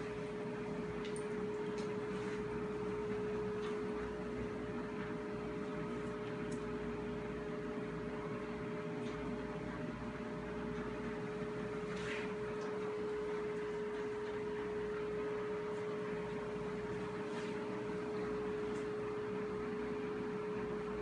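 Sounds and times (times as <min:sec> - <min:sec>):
appliance electrical hum: 0:00.0 - 0:21.0.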